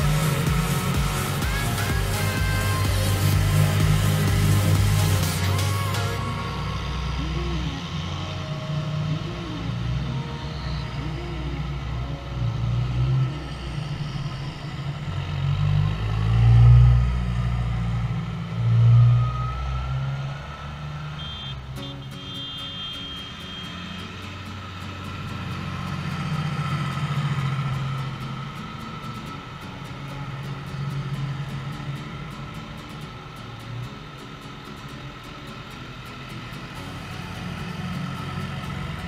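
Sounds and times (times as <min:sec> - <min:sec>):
tractor diesel engines rumbling: 0:00.0 - 0:39.0.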